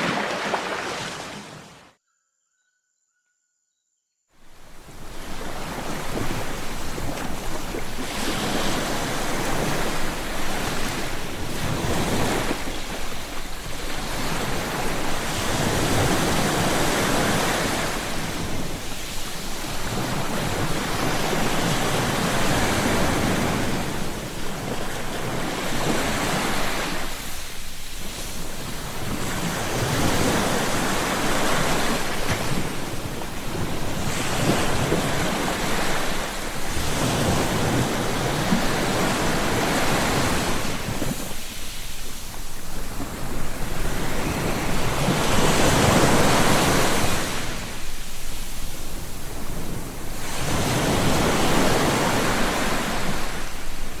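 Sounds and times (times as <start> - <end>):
ocean waves breaking: 0.0 - 2.0, 4.4 - 54.0.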